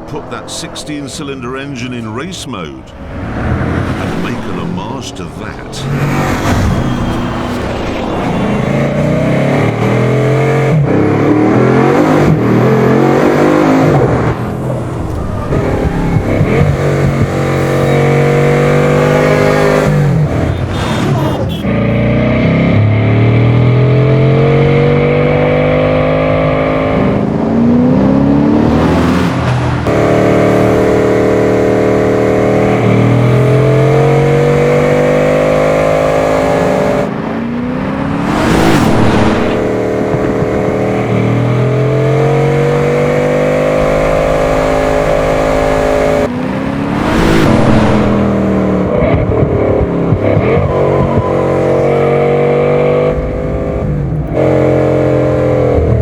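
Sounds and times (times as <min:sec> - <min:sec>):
car engine accelerating hard: 0:00.0 - 0:56.0
car rushing by: 0:00.0 - 0:56.0.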